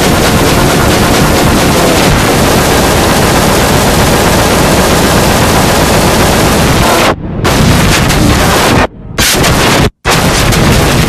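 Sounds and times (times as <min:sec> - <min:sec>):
loud clipped static noise: 0:00.0 - 0:11.0.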